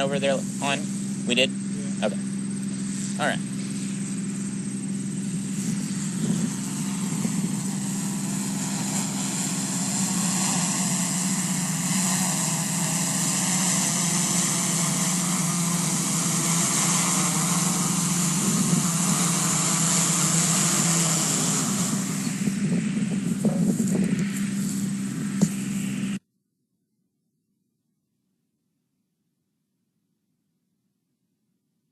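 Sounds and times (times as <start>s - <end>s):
drone propellers humming: 0.0s - 26.2s.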